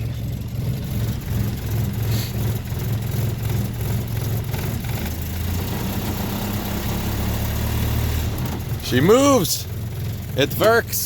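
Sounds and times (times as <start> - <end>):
truck engine running under load: 0.0 - 11.0.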